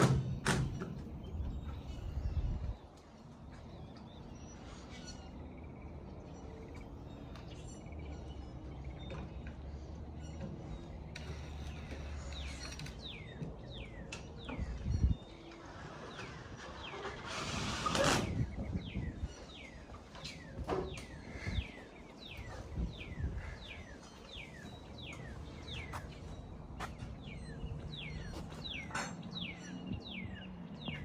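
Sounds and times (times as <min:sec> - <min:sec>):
birds calling: 0:00.0 - 0:31.0.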